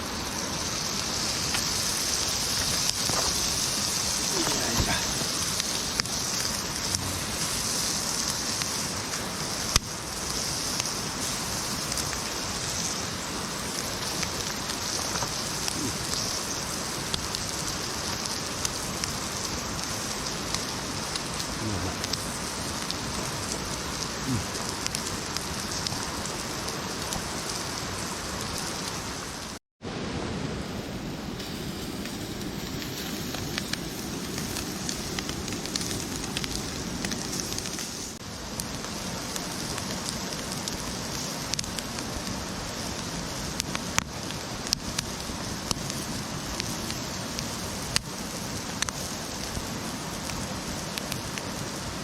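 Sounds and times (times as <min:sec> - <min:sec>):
meat sizzling on a grill: 0:00.0 - 0:29.6, 0:30.7 - 0:52.0.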